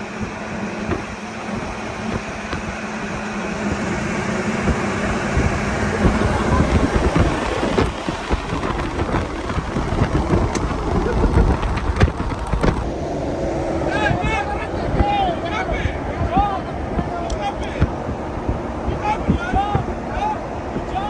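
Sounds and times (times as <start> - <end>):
vehicle rough rumble: 0.0 - 21.0
wind buffeting: 0.0 - 21.0.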